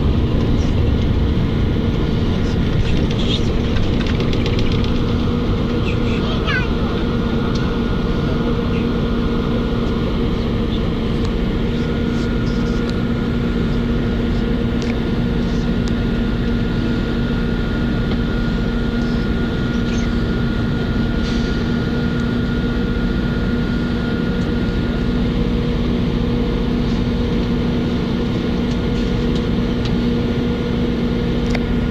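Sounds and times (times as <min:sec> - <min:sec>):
vehicle interior drone: 0:00.0 - 0:31.9.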